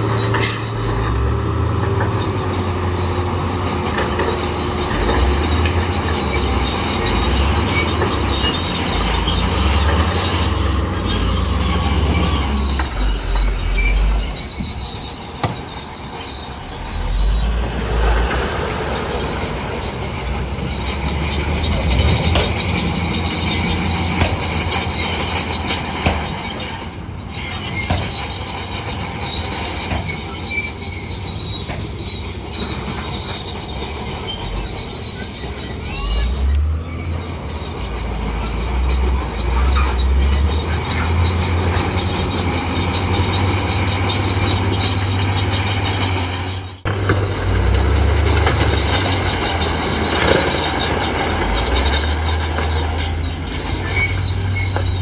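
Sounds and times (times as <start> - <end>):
diesel engine rumbling: 0.0 - 55.0
steel tracks squealing and clanking: 0.0 - 55.0.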